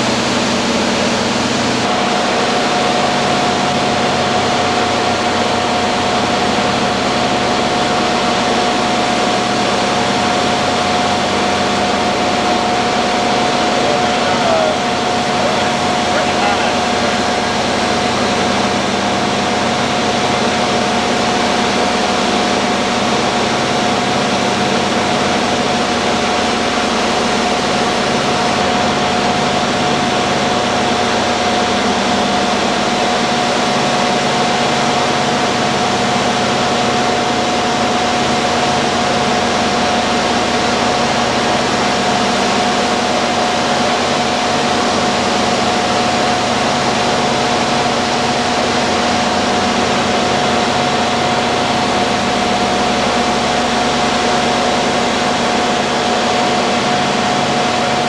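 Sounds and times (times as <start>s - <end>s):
propeller aircraft engines drone: 0.0s - 58.0s.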